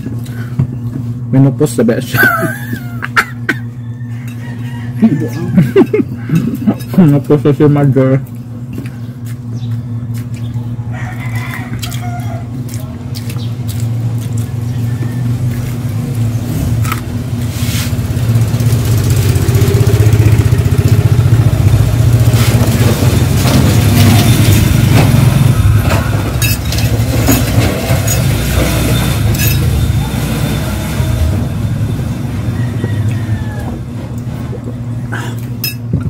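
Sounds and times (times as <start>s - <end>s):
vehicle engine running: 2.6s - 36.0s.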